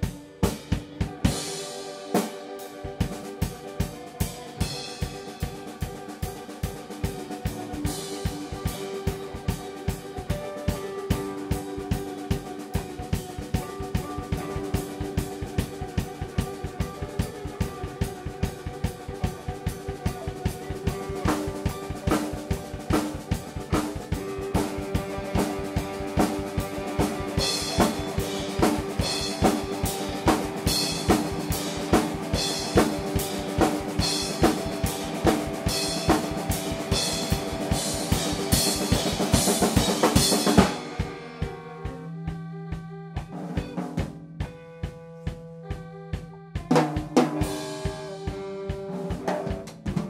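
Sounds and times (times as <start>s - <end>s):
drum kit fast beat: 0.0s - 45.4s, 46.6s - 50.0s
keyboard notes: 0.0s - 50.0s
sustained guitar notes: 0.0s - 50.0s.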